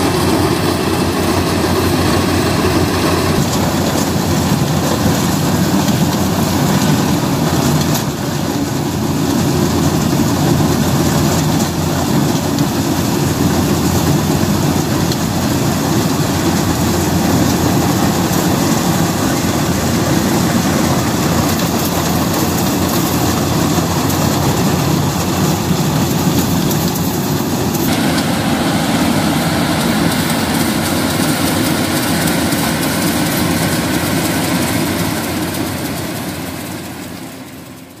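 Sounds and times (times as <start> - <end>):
combine harvester engine and machinery: 0.0 - 38.0.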